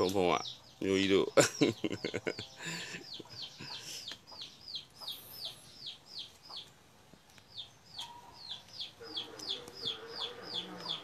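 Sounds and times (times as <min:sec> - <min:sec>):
bird peeping: 0:00.0 - 0:11.0.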